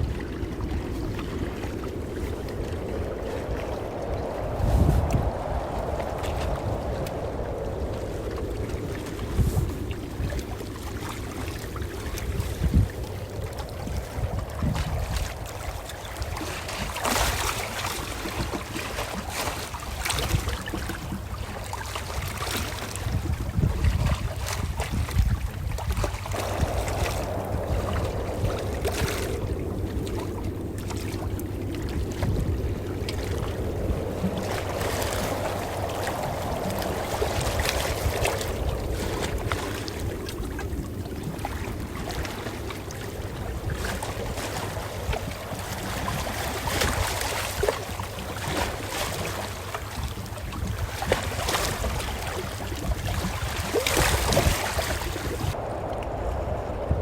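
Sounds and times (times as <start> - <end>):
low rumble: 0.0 - 51.0, 53.2 - 57.0
calm ocean waves lapping: 0.0 - 57.0.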